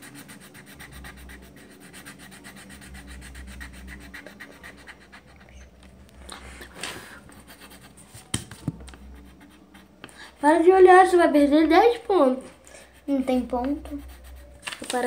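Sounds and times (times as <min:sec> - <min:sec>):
pencil scratching on paper: 0:00.0 - 0:11.2, 0:12.7 - 0:15.0.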